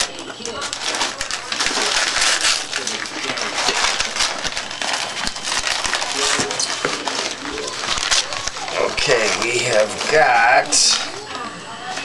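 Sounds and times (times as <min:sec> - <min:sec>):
packing material crinkling: 0:00.0 - 0:12.0.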